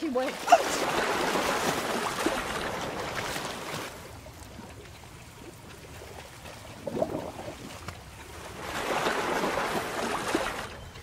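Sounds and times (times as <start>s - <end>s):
pool water splashing: 0.0s - 11.0s.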